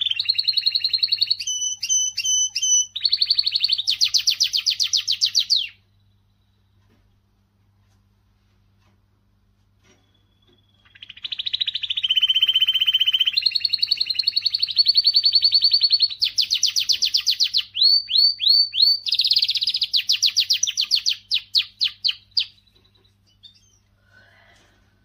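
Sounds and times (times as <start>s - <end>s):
canary singing trills: 0.0s - 6.8s, 9.8s - 24.0s.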